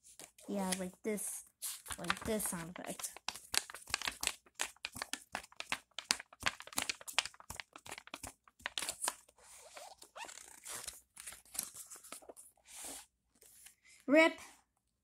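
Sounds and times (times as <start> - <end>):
book pages flipping: 0.0 - 1.0, 1.6 - 13.8.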